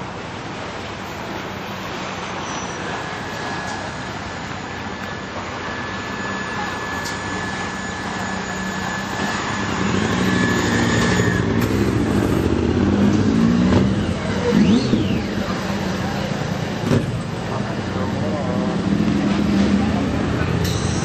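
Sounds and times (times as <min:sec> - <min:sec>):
steady high whine: 0:00.0 - 0:21.0
vehicle engine from inside cabin: 0:00.0 - 0:21.0.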